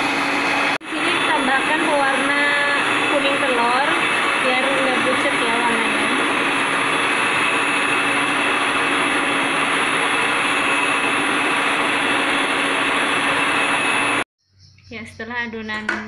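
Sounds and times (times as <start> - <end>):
electric hand mixer whirring: 0.0 - 14.3.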